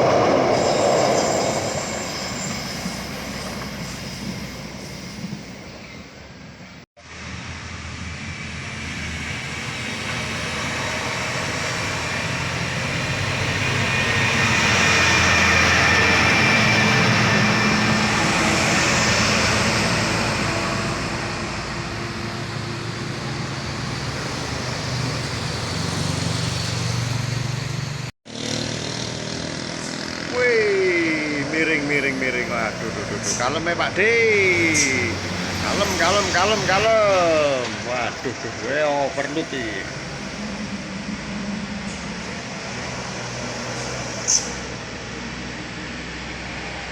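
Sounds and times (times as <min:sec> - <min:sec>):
heavy vehicle passing: 0:00.0 - 0:02.4, 0:09.4 - 0:46.9.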